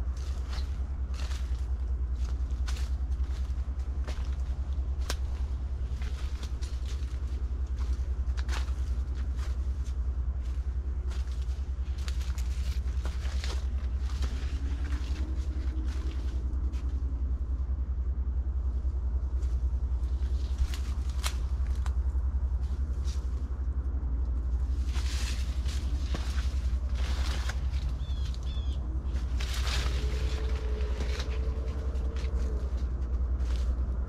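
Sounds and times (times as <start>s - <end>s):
corn leaves rustling: 0.0s - 17.5s, 19.3s - 23.8s, 24.4s - 34.0s
faint hum: 0.0s - 34.0s
low rumble: 0.0s - 34.0s.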